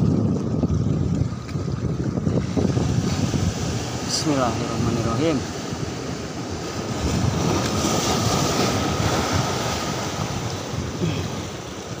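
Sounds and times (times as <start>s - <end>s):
wind buffeting microphone: 0.0s - 12.0s
surf breaking over rocks: 1.5s - 12.0s.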